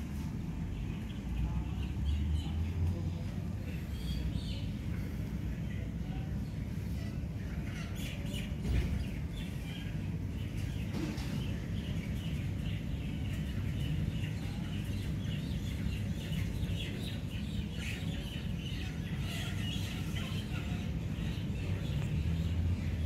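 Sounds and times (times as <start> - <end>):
small birds chirping: 0.2 - 23.0.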